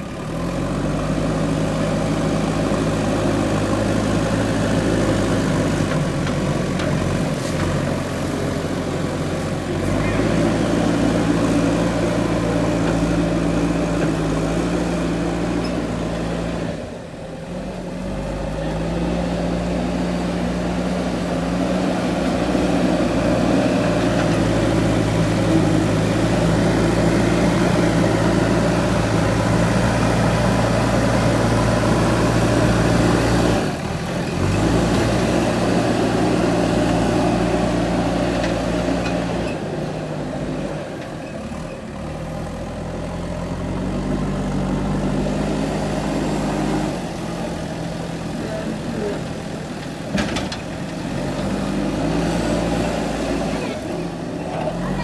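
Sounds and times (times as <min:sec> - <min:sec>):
backhoe diesel engine running: 0:00.0 - 0:55.0.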